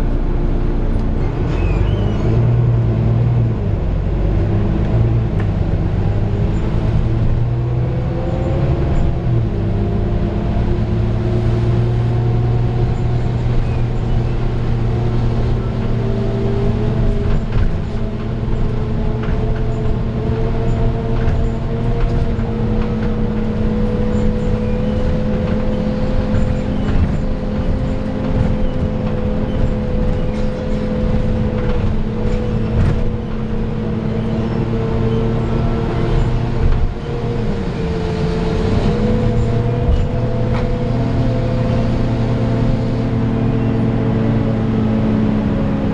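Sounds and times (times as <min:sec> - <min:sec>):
bus diesel engine running: 0:00.0 - 0:45.9.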